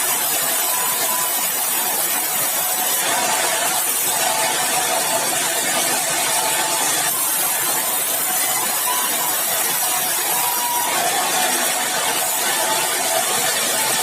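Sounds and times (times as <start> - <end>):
sawmill saw cutting log: 0.0 - 14.0.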